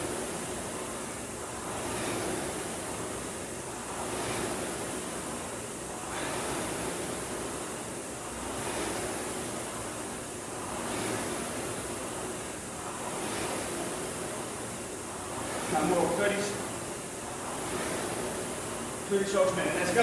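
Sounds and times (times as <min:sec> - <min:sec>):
rowing machine fan whooshing: 0:00.0 - 0:20.0.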